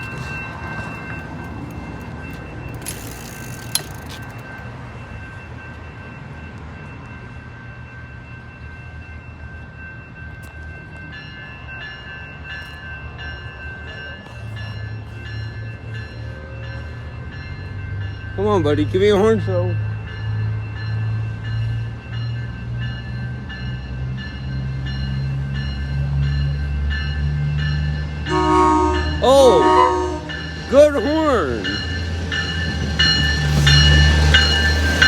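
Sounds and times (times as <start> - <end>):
train engine humming: 0.0 - 35.0
warning bell ringing: 0.0 - 35.0.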